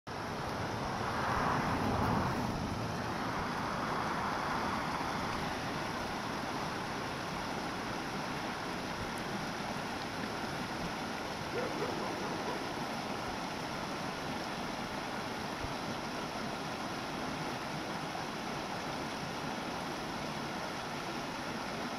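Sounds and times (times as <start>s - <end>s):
creek water running over rocks: 0.1s - 21.9s.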